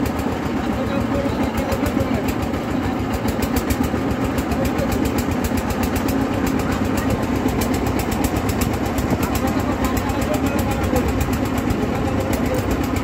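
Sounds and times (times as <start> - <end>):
boat engine knocking rapidly: 0.0 - 13.0.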